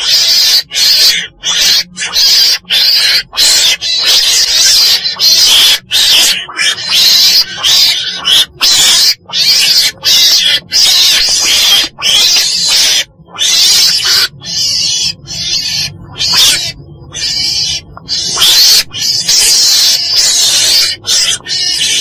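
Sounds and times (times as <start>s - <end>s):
weasel calling in hissing bursts: 0.0s - 22.0s.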